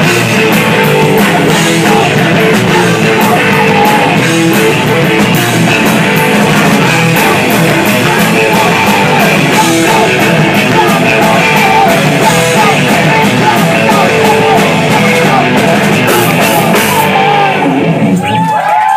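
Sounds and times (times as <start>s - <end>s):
lead vocal singing: 0.0s - 18.0s
drum kit with cymbals: 0.0s - 18.1s
distorted electric guitars: 0.0s - 18.6s.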